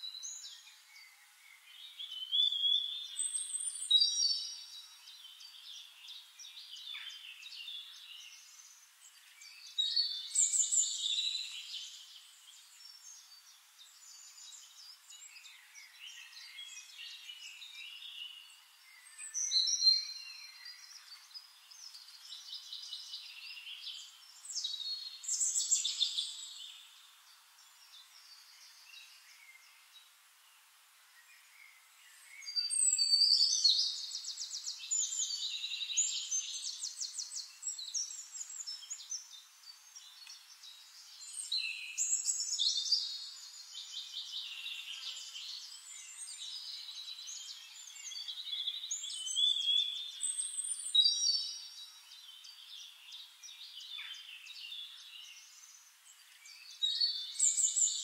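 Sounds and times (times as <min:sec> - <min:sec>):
faint steady hiss: 0:00.0 - 0:58.0
birds chirping and singing: 0:00.1 - 0:30.0, 0:31.2 - 0:58.0.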